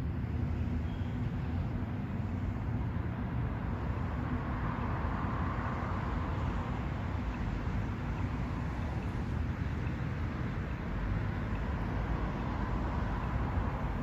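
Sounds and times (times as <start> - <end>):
rumble of trams and traffic: 0.0 - 14.0.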